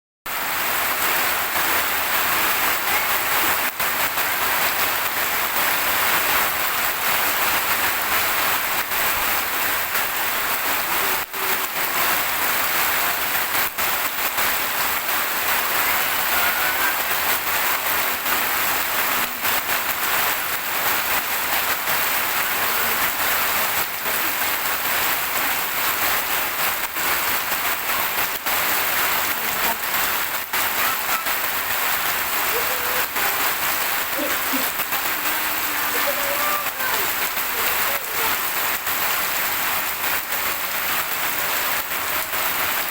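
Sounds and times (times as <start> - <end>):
heavy rain falling: 0.3 - 42.9.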